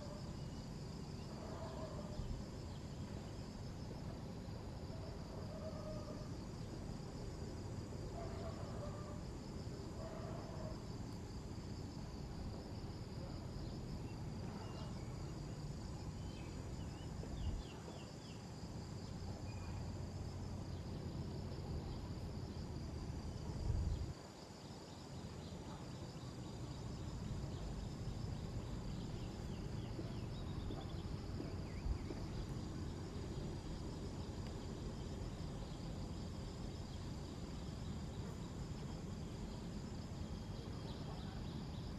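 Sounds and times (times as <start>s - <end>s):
insects chorus: 0.0s - 41.9s.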